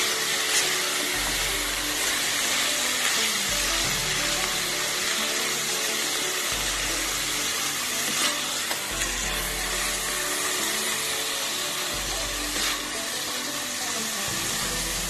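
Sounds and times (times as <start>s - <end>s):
meat sizzling in a pot: 0.0s - 15.0s
soft background music: 0.0s - 15.0s.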